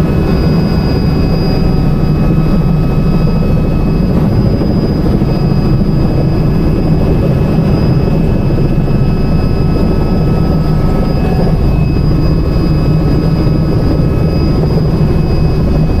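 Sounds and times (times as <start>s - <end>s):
faint high whine: 0.0s - 16.0s
helicopter engine and rotor rumble: 0.0s - 16.0s.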